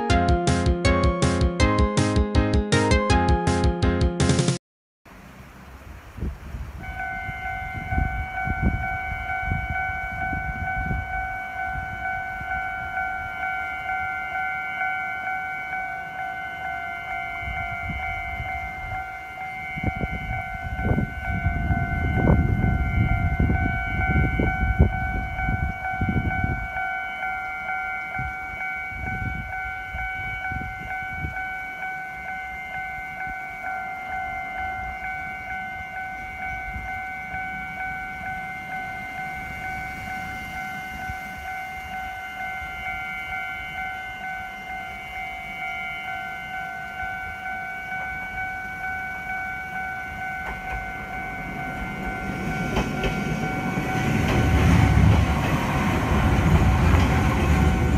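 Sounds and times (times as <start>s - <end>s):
level crossing bell ringing: 6.9s - 57.9s.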